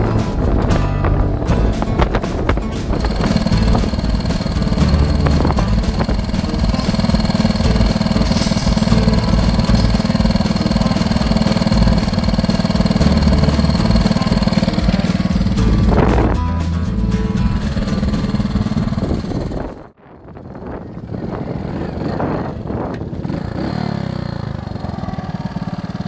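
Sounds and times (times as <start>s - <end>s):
small engine idling: 0.0s - 19.8s, 20.8s - 26.0s.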